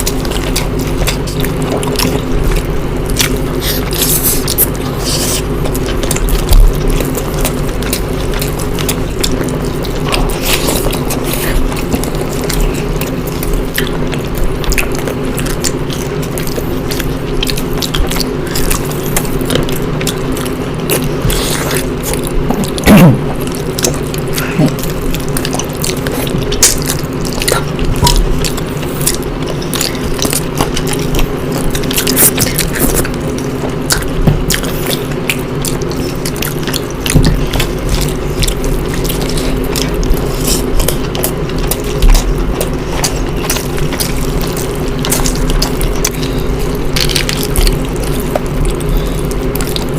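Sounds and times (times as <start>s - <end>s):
chewing and mouth clicks: 0.0s - 49.9s
steady low hum: 0.0s - 49.9s.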